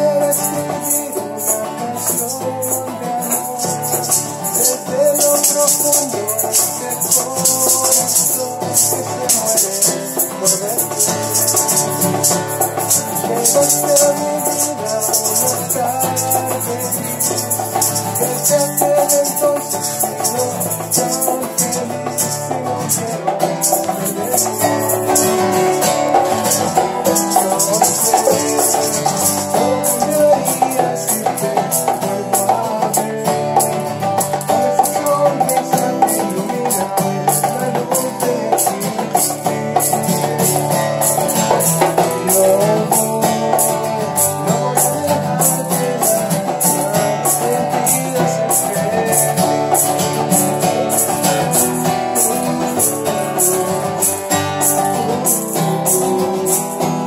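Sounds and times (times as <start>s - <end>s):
acoustic guitar strumming: 0.0s - 57.0s
man singing: 0.0s - 57.0s
maracas and egg shakers: 0.0s - 57.0s.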